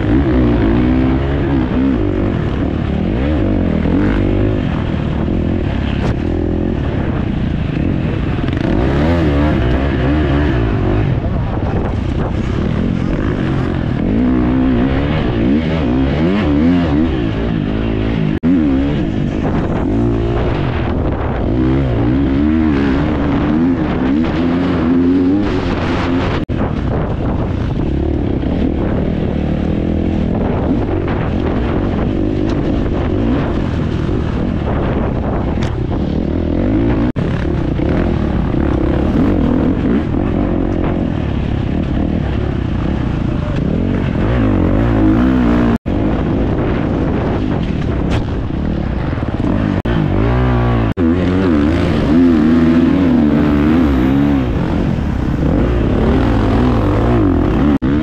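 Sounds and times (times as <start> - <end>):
off-road motorcycle engine revving: 0.0 - 58.0.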